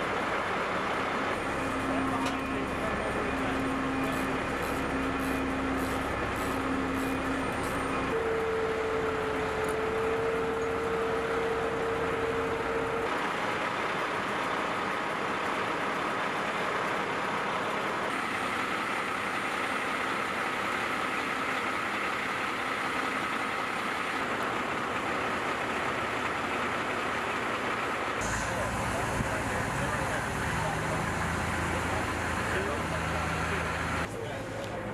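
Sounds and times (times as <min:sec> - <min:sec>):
vehicle engines running: 0:00.0 - 0:34.9.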